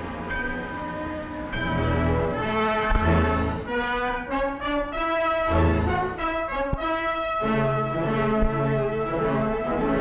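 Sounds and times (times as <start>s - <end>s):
orchestral music with brass: 0.0s - 10.0s.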